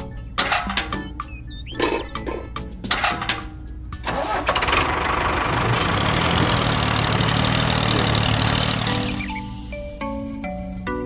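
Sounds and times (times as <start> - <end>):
tractor diesel engine running: 1.3 - 10.3.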